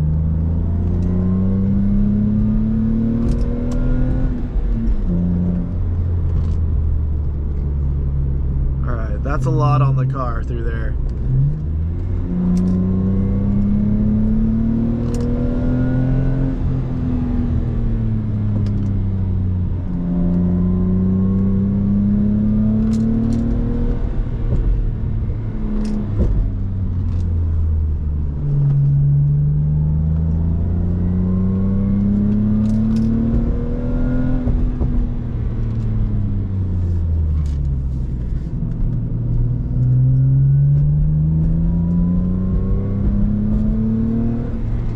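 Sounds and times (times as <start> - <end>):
car engine accelerating: 0.0 - 44.9.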